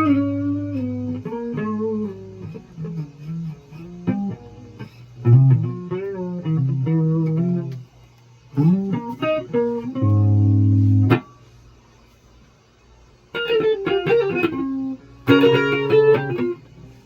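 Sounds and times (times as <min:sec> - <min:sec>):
guitar plucked notes: 0:00.0 - 0:07.8, 0:08.6 - 0:11.4, 0:13.3 - 0:16.8.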